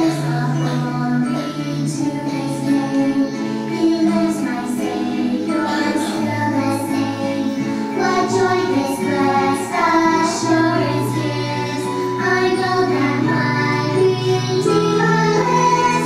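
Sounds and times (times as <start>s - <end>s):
musical accompaniment with bass: 0.0s - 16.0s
voices singing: 0.0s - 16.0s.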